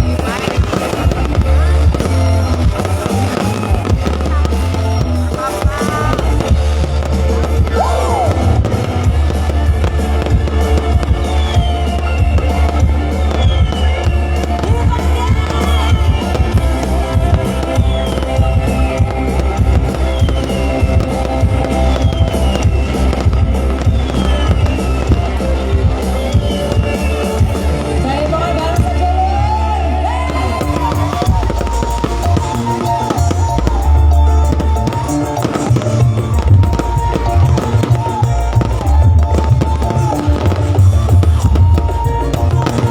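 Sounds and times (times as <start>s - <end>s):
fireworks banging and crackling: 0.0s - 29.1s, 30.1s - 42.9s
loud instrumental music with drums: 0.0s - 42.9s.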